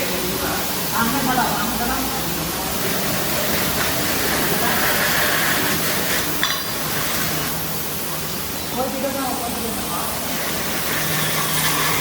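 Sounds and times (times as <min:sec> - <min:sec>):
pressure washer spraying hiss: 0:00.0 - 0:12.0.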